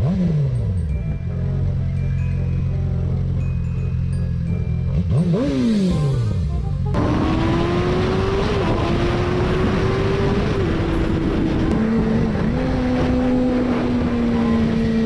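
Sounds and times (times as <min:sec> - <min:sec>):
vehicle engine running: 0:00.0 - 0:15.0
wind and road noise: 0:00.0 - 0:15.0.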